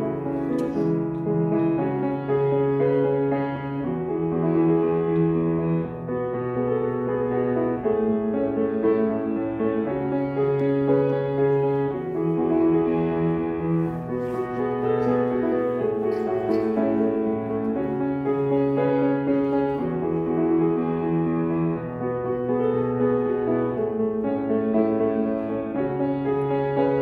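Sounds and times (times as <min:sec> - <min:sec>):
solo grand piano: 0:00.0 - 0:27.0.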